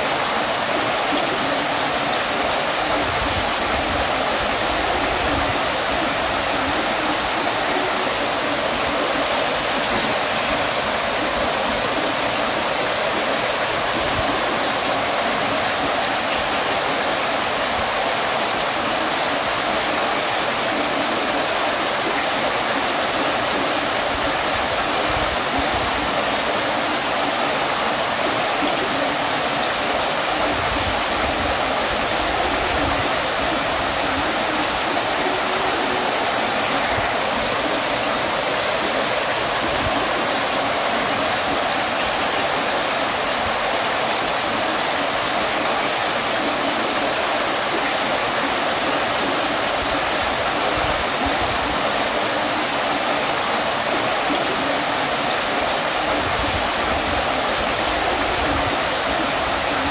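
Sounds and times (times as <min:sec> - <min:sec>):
fountain water splashing: 0:00.0 - 0:59.9.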